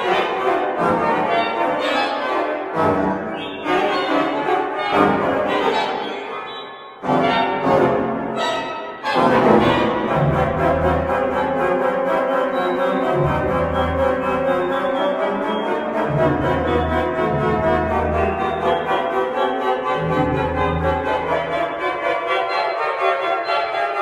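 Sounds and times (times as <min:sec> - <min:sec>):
pipe organ chords: 0:00.0 - 0:24.0.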